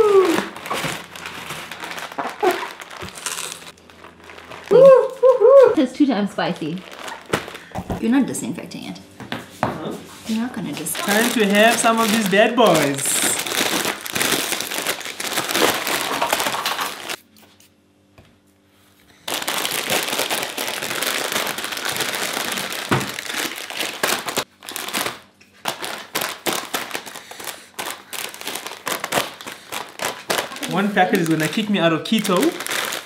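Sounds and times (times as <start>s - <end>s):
plastic packets crinkling: 0.0s - 5.3s, 6.2s - 8.0s, 10.3s - 17.2s, 19.2s - 33.0s.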